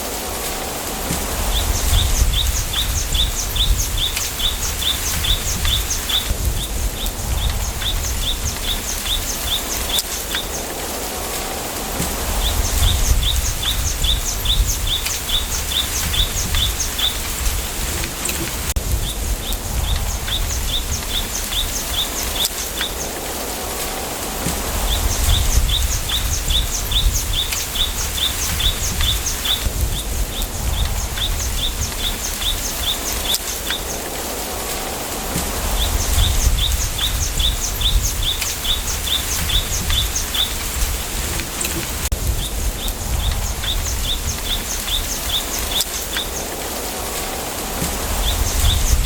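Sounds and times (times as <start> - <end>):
wind rustling bamboo leaves: 0.0 - 49.0.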